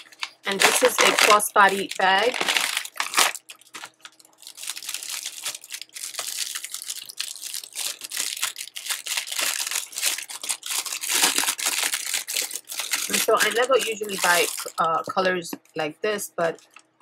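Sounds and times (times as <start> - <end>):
packaging crinkling: 0.0 - 15.7.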